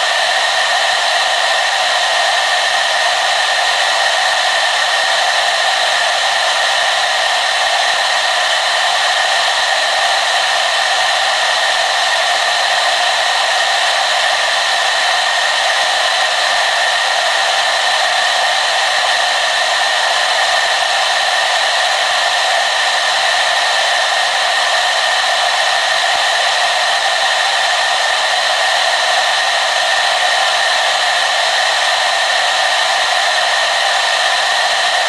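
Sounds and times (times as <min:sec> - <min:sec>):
hair dryer running: 0:00.0 - 0:35.0.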